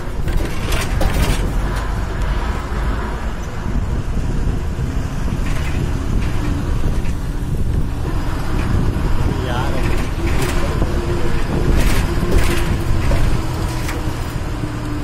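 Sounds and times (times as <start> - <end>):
vehicle running rumble: 0.0 - 15.0.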